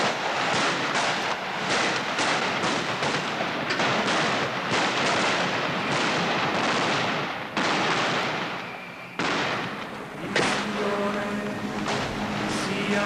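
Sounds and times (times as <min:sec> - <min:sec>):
explosions: 0:00.0 - 0:13.0
gunfire: 0:00.0 - 0:13.0.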